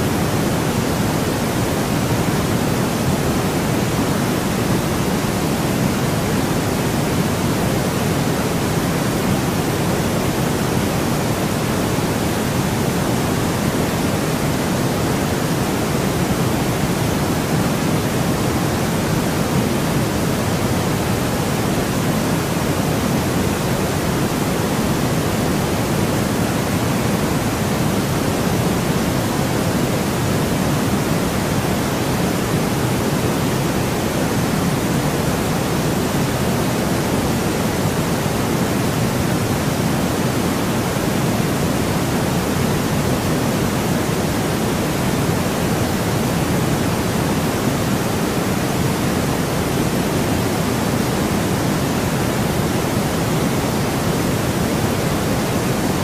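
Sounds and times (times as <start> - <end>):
steady pink noise: 0.0 - 56.0.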